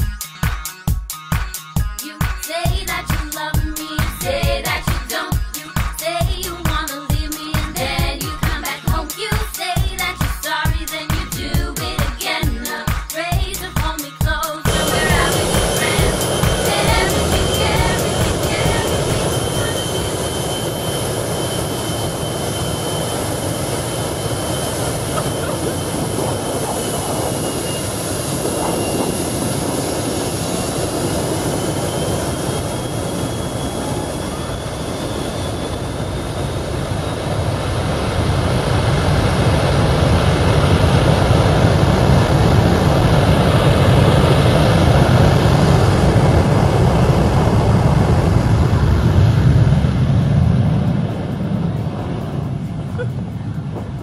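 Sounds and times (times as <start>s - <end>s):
aircraft engines running: 2.5s - 54.0s
high engine whine: 2.7s - 54.0s.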